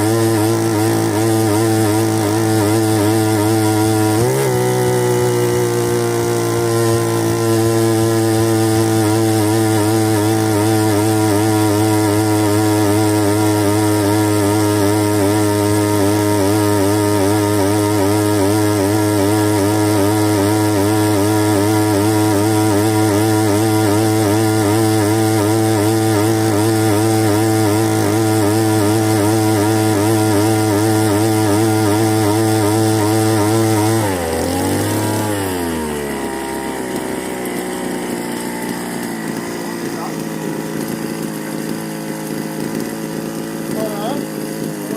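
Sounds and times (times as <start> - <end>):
engine running with wavering note: 0.0 - 44.9.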